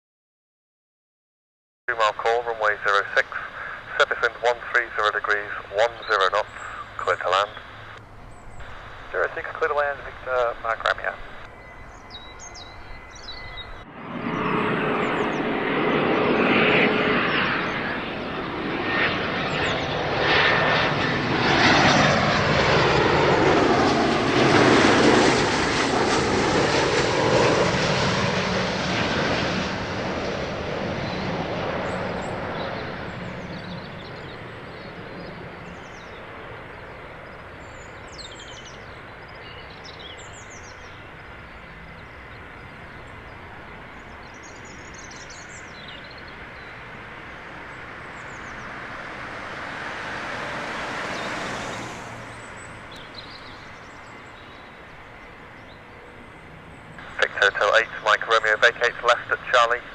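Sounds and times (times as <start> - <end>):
business jet landing: 1.9 - 59.9.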